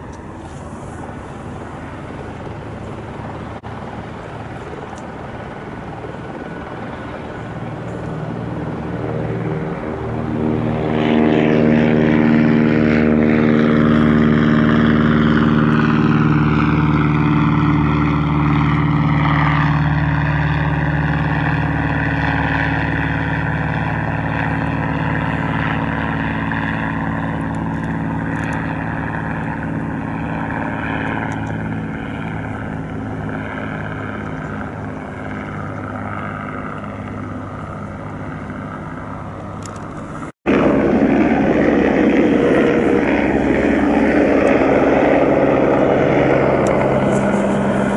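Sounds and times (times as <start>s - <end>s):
propeller aircraft drone: 0.0s - 47.9s.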